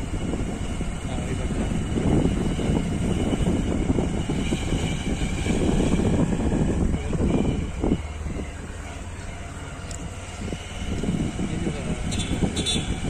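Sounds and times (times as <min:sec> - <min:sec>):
road rumble: 0:00.0 - 0:13.0
vehicle engine running: 0:00.0 - 0:13.0
wind rush: 0:00.0 - 0:13.0.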